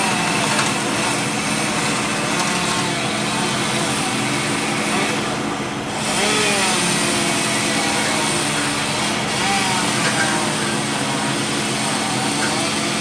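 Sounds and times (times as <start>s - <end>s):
engines humming: 0.0s - 13.0s.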